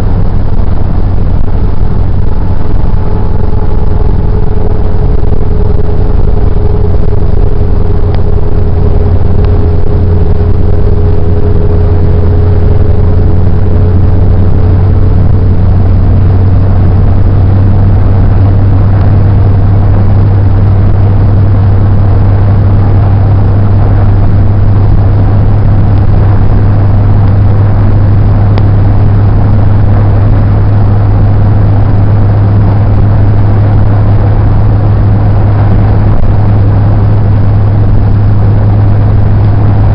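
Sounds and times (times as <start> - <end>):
car engine and road noise: 0.0 - 39.9
faint hum rising in pitch: 0.0 - 39.9.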